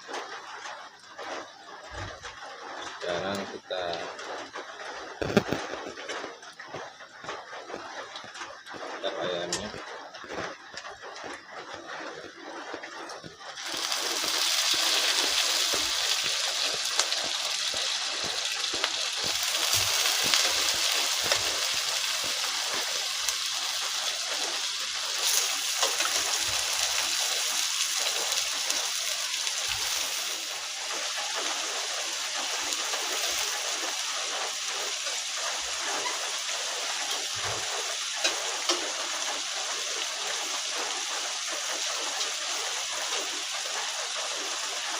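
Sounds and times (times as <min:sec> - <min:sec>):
chicken sizzling in hot oil: 0:00.0 - 0:44.9
oil crackling and spitting: 0:00.0 - 0:44.9.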